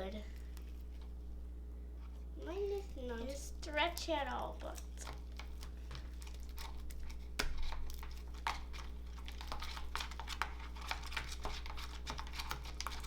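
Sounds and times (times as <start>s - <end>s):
slime squishing: 2.4s - 13.0s.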